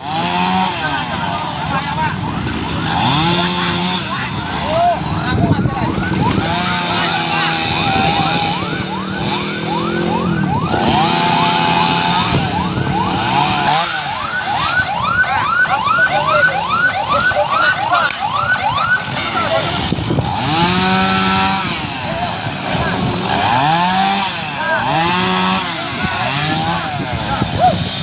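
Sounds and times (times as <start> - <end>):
emergency vehicle siren: 0.0 - 28.0
vehicle noise: 0.0 - 28.0.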